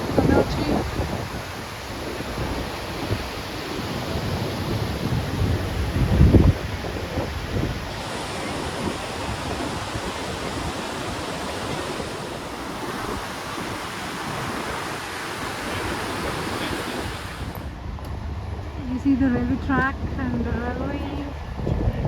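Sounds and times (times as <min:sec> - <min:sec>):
river water rushing over rocks: 0:00.0 - 0:17.8.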